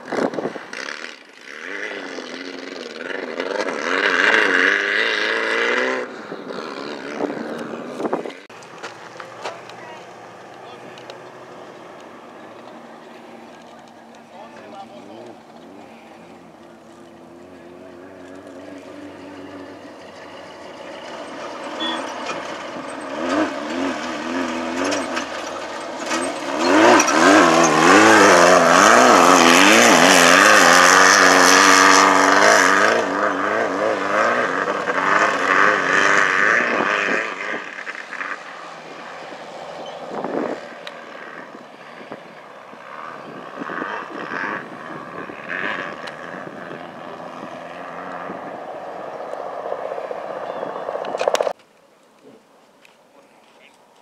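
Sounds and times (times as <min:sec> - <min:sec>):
race car engine passing: 0:00.1 - 0:51.6.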